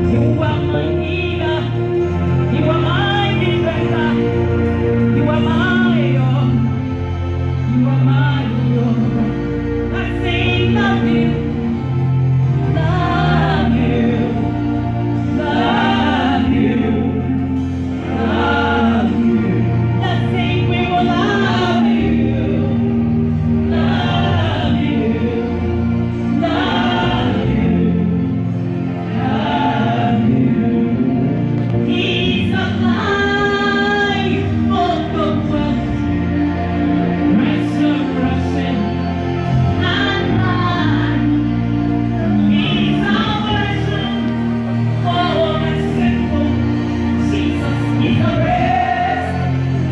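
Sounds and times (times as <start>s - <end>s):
sustained low accompaniment: 0.0s - 49.9s
women singing gospel: 0.0s - 49.9s.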